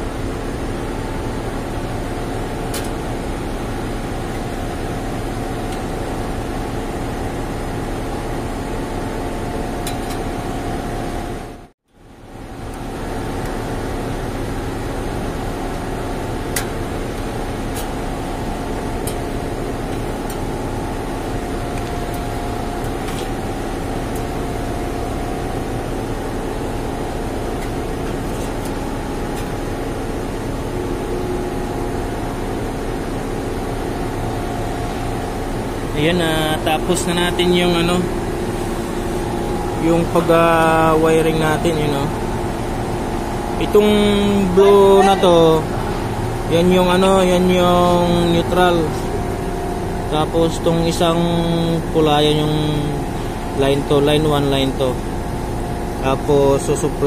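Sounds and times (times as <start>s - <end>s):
machinery hum: 0.0s - 57.0s.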